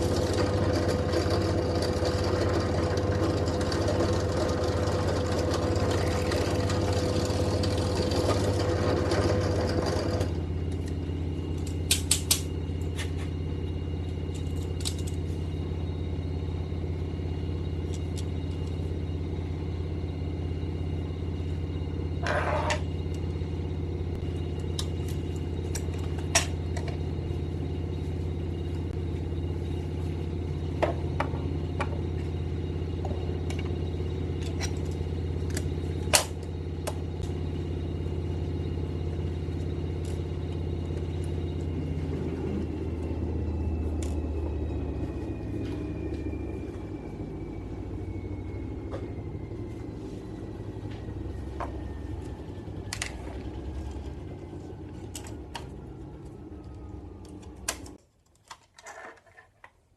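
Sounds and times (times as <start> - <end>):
drill press motor humming: 0.0 - 58.0.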